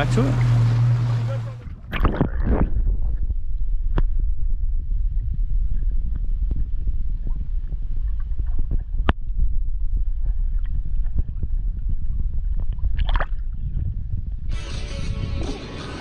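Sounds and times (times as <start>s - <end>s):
underwater rumbling wash: 0.0s - 16.0s.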